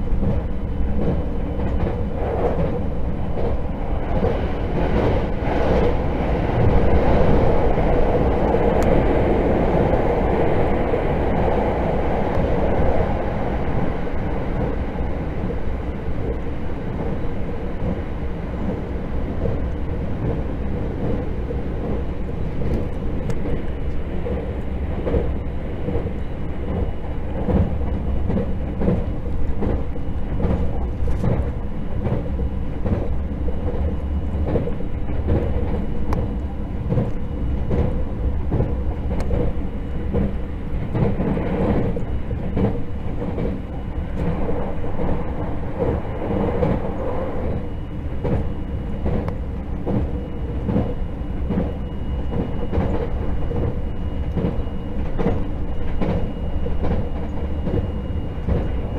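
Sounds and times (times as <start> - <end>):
train running rumble: 0.0 - 58.9.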